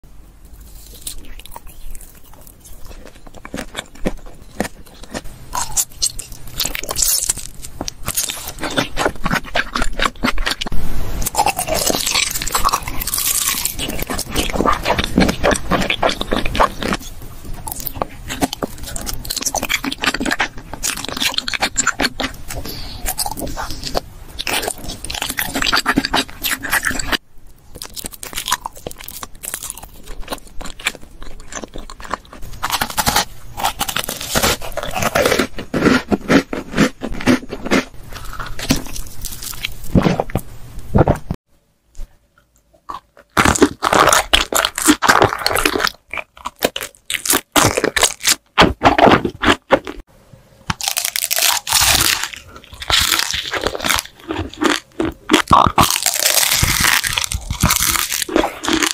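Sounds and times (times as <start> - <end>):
crunchy candy bites and chewing: 0.6 - 41.3, 42.8 - 50.1, 50.7 - 58.9.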